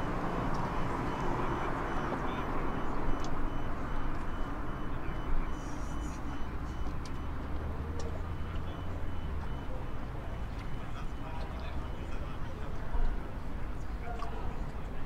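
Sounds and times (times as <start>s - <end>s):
distant city traffic: 0.0s - 15.0s.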